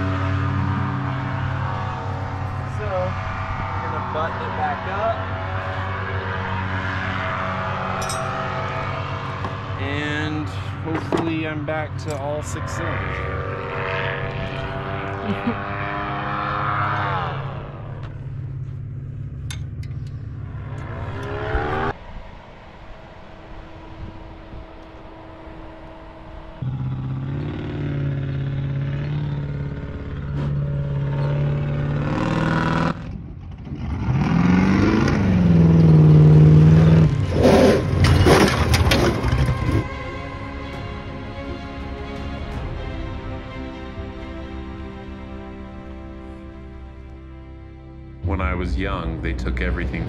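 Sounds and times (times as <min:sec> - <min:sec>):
diesel engine revving: 0:00.0 - 0:50.0.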